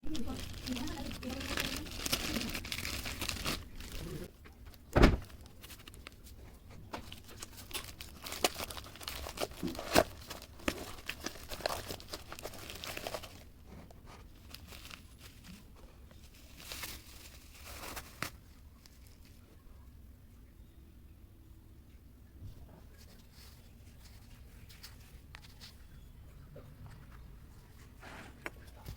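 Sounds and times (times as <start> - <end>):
light crinkling: 0.0 - 20.5, 22.2 - 28.9.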